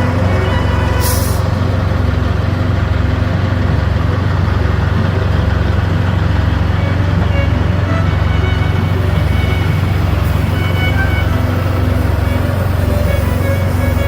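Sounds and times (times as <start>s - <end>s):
heavy vehicle engine idling: 0.0s - 14.0s.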